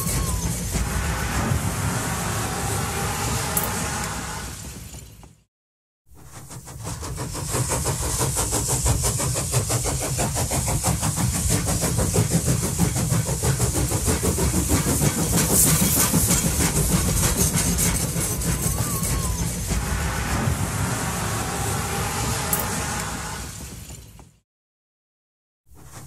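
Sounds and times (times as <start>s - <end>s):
train running: 0.0s - 5.4s, 6.1s - 24.4s.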